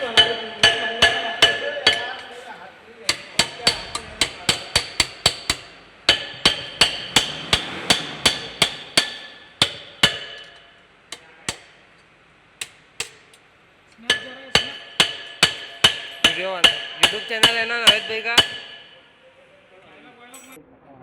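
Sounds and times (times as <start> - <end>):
hammer striking metal: 0.0 - 2.5, 3.1 - 11.9, 12.6 - 13.4, 14.0 - 19.2.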